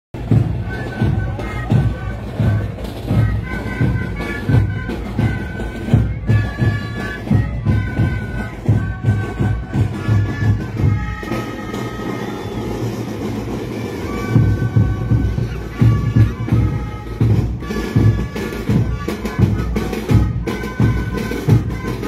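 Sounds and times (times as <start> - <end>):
drum beats: 0.2 - 22.0
marching band playing a march: 0.2 - 22.0.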